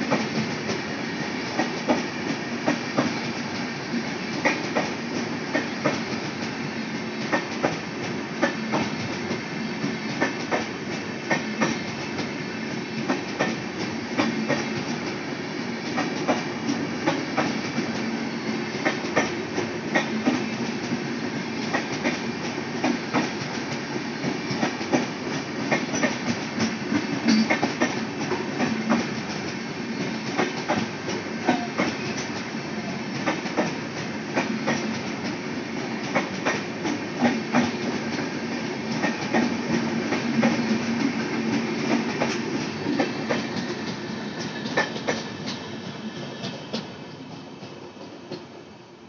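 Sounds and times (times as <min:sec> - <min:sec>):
train coaches rumbling past: 0:00.0 - 0:49.0.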